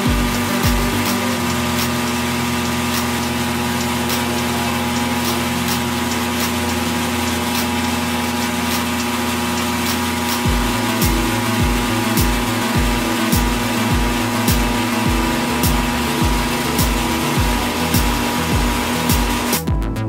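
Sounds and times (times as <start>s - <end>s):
drill boring into metal: 0.0s - 19.6s
milling machine spindle running: 0.0s - 19.6s.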